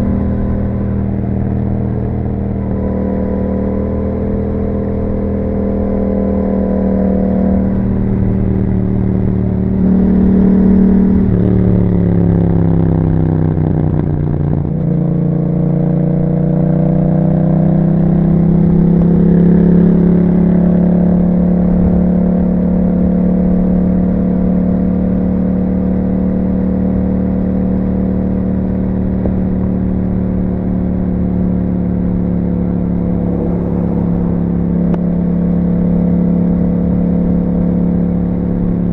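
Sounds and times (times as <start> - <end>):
motorcycle engine on the move: 0.0 - 38.9.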